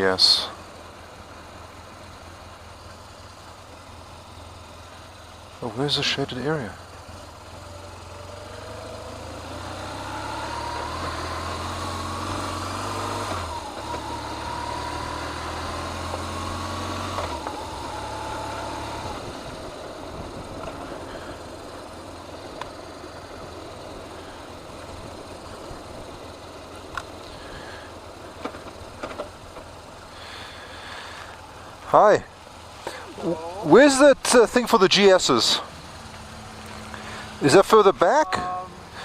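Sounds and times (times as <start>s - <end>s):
motorcycle engine: 0.0s - 39.0s.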